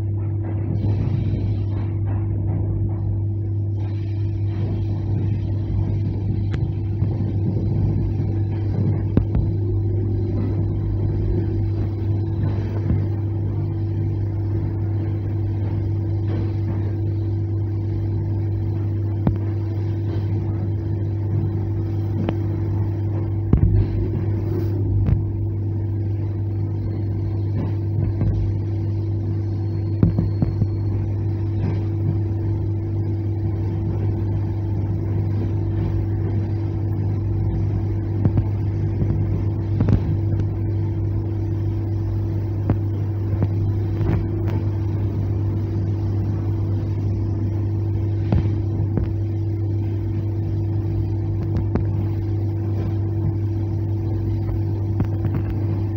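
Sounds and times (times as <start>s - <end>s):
train running hum: 0.0s - 55.9s.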